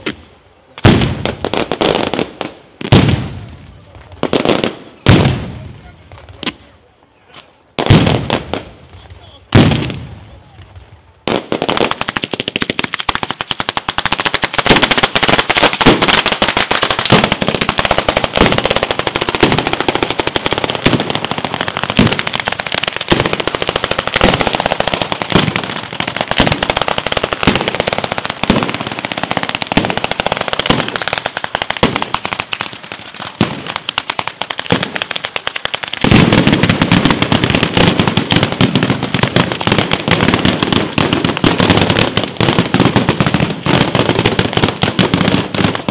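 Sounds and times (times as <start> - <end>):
firecrackers crackling: 0.0 - 45.9
heavy firework bangs: 0.8 - 6.7, 7.8 - 45.9.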